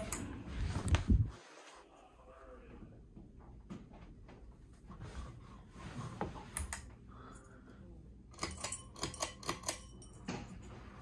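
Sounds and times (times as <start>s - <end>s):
ceiling fan running: 0.0s - 11.0s.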